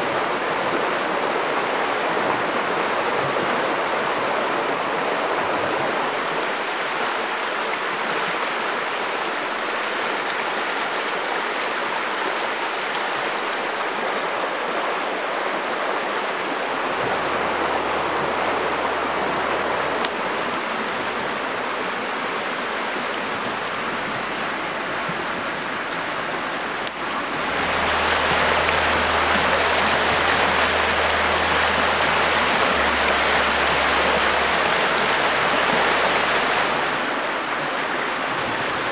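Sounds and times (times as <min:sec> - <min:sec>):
river water rushing over rapids: 0:00.0 - 0:38.9.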